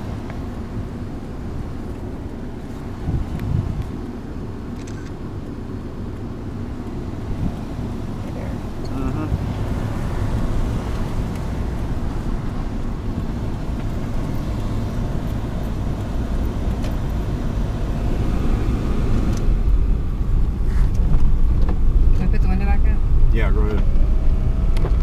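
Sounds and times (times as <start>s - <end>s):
road and engine rumble inside vehicle: 0.0s - 25.0s.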